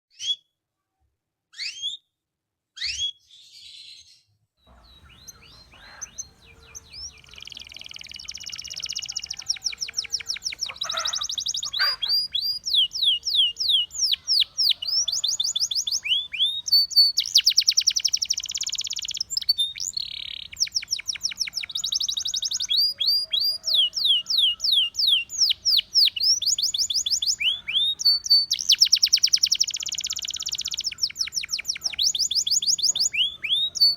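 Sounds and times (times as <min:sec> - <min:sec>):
canary singing trills: 0:01.5 - 0:02.0, 0:04.7 - 0:33.9.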